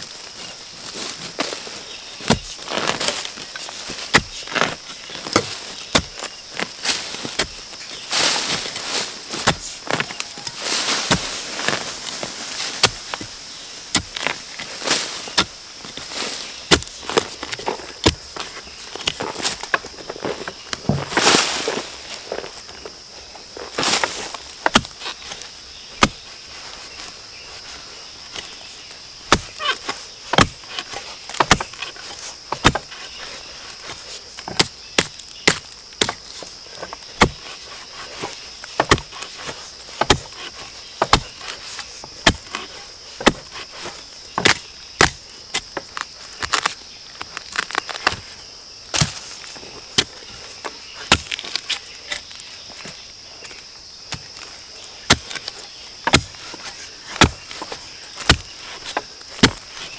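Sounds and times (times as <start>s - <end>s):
chopping bamboo by hand: 2.2s - 16.1s, 16.7s - 21.7s, 23.8s - 26.2s, 29.3s - 48.2s, 48.9s - 59.9s.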